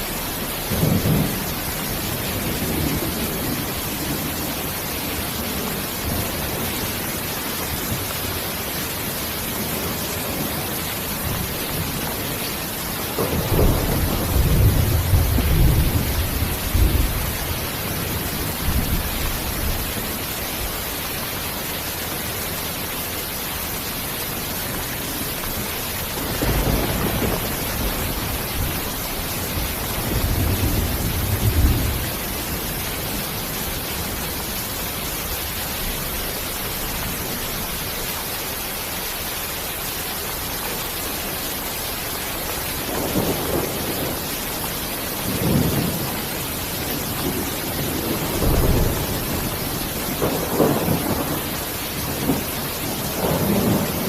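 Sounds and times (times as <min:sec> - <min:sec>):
thunder rumbling: 0:00.0 - 0:22.4, 0:24.4 - 0:37.9, 0:42.7 - 0:54.0
rain hissing: 0:00.0 - 0:54.0.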